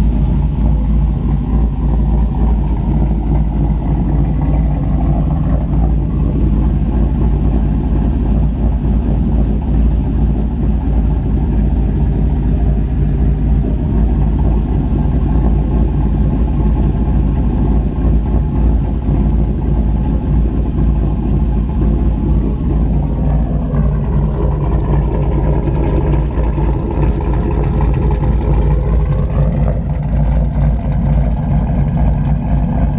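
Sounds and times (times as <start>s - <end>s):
engine running with lope: 0.0s - 32.9s.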